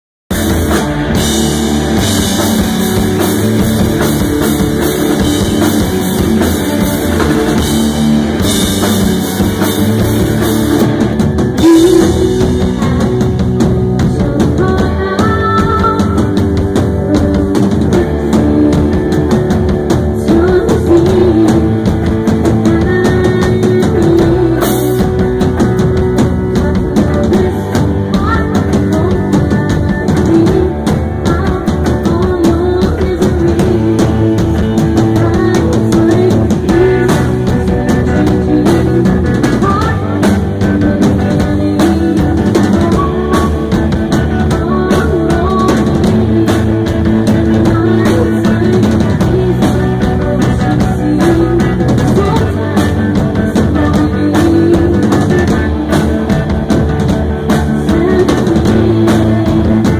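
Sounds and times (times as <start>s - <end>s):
drum kit: 0.3s - 59.9s
electric guitars: 0.3s - 59.9s.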